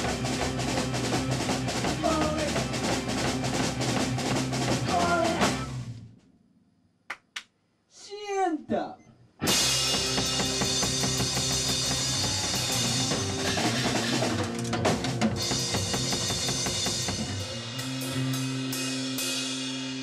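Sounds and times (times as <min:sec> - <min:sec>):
rock band playing loud: 0:00.0 - 0:06.0, 0:09.4 - 0:20.0.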